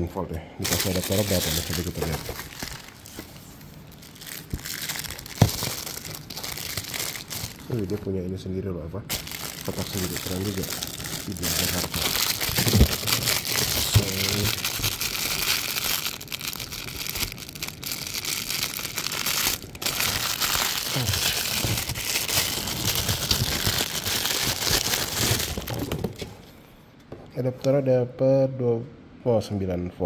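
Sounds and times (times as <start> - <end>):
plastic bag crinkling: 0.6 - 8.2, 9.1 - 26.5.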